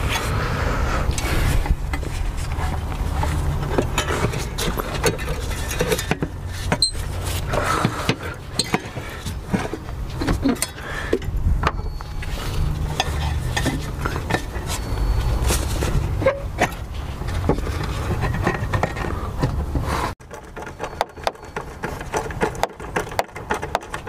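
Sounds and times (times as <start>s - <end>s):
metal tools clinking and knocking: 3.1s - 19.6s, 20.2s - 24.0s.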